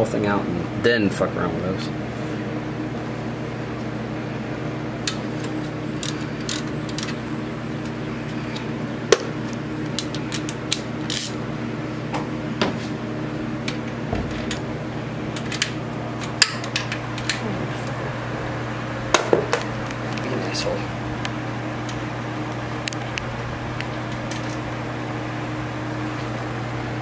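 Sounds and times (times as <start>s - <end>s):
steady electric hum: 0.0s - 27.0s.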